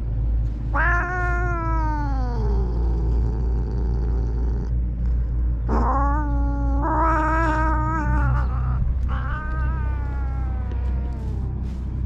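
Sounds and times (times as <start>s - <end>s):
steady low rumble: 0.0s - 12.0s
cat meowing: 0.7s - 4.7s, 5.7s - 11.8s.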